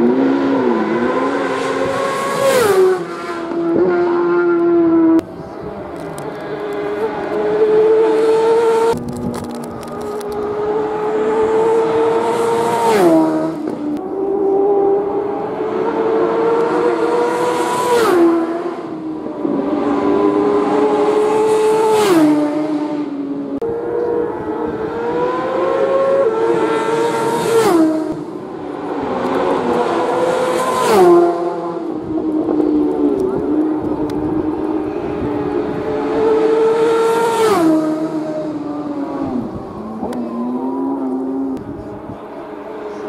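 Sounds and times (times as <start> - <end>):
racing motorcycles passing: 0.0 - 43.0.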